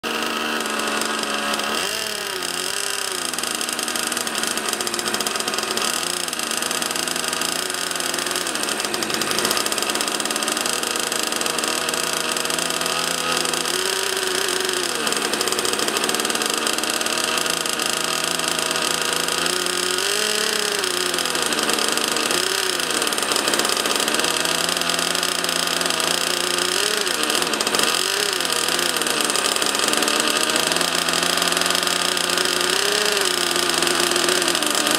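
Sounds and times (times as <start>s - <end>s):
model jet turbine whining: 0.0s - 34.9s.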